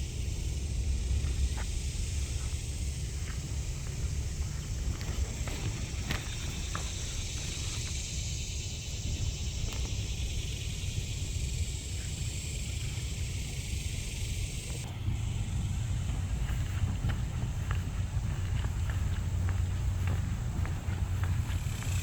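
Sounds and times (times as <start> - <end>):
low rumble: 0.0 - 22.0
steady high hiss: 0.0 - 22.0.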